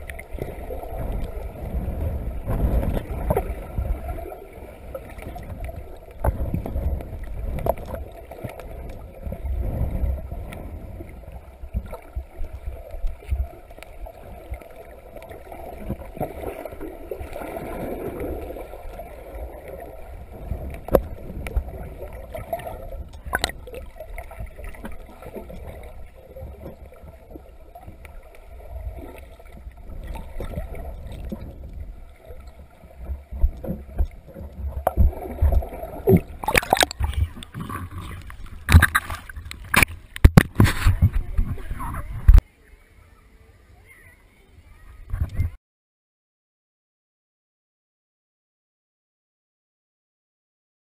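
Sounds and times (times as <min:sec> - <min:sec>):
underwater water rumble: 0:00.0 - 0:42.8.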